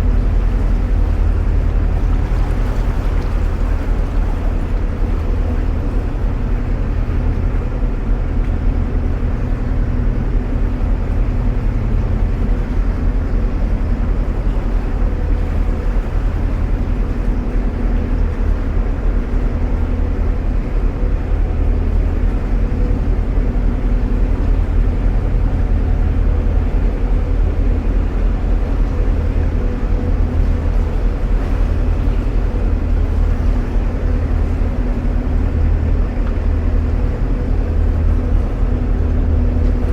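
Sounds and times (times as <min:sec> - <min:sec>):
boat engine low hum: 0:00.0 - 0:39.9.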